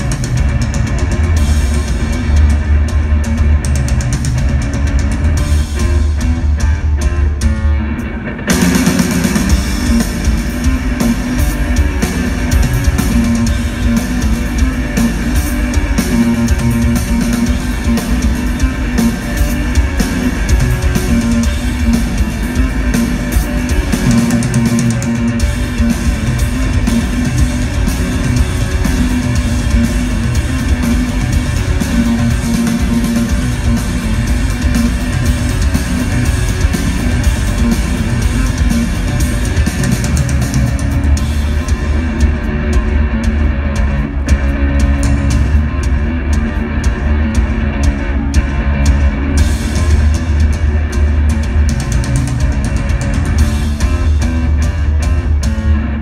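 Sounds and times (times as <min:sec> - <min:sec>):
bass guitar: 0:00.0 - 0:56.0
drum kit: 0:00.0 - 0:56.0.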